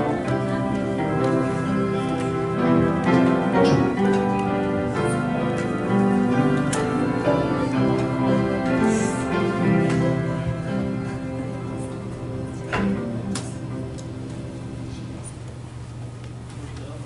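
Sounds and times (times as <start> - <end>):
church keyboard chords: 0.0 - 16.3.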